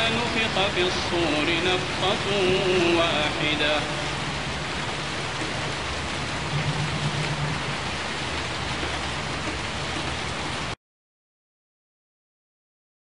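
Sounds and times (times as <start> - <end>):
steady rain: 0.0 - 10.8.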